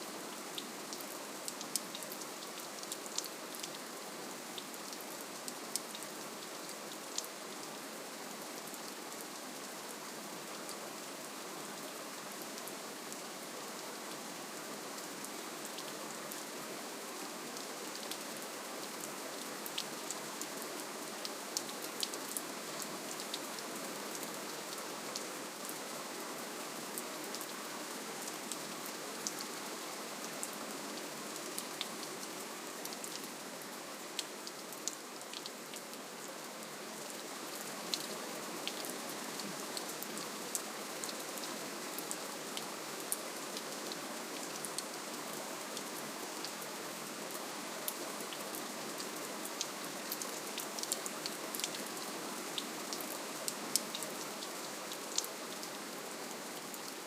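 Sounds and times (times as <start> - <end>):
gentle rain hiss: 0.0 - 57.0.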